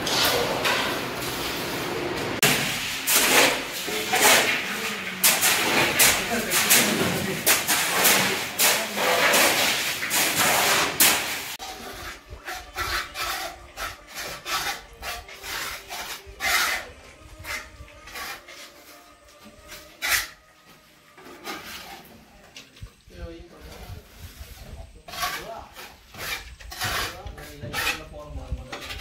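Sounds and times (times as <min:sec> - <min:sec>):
shovel scraping wet concrete: 0:00.0 - 0:01.6, 0:02.4 - 0:19.0, 0:19.7 - 0:20.4, 0:24.2 - 0:29.0.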